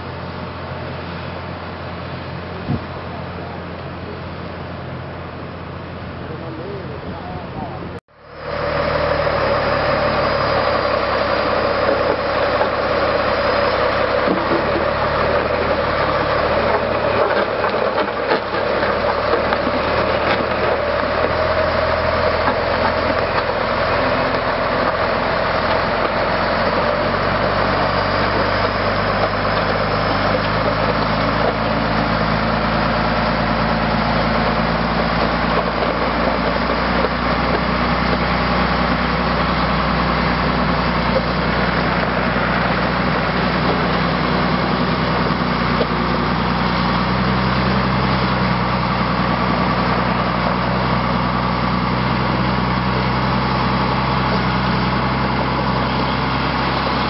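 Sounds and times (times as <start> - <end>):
diesel engine running at low speed: 0.0 - 57.0.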